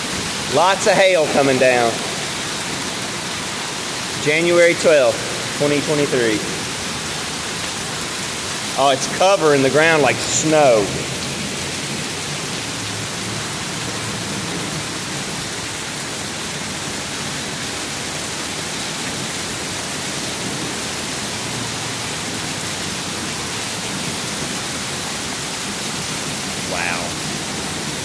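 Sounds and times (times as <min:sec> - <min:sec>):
hail and rain on pavement: 0:00.0 - 0:28.0.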